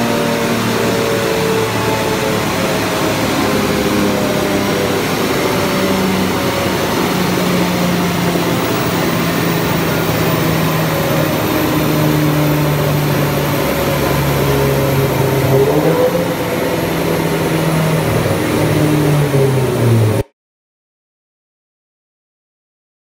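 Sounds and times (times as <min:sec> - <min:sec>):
car engine idling: 0:00.0 - 0:20.2
cooling fans rushing: 0:00.0 - 0:20.2.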